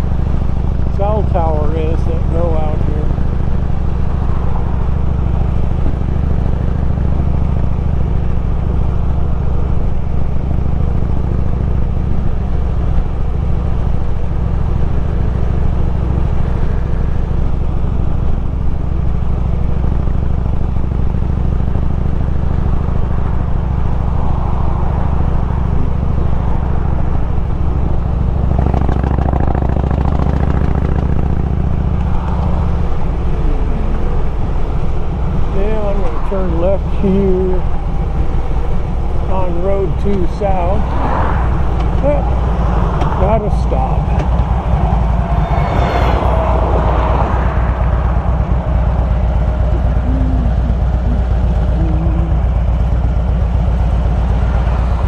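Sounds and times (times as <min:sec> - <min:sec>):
motorcycle engine running: 0:00.0 - 0:55.0
road noise: 0:00.0 - 0:55.0.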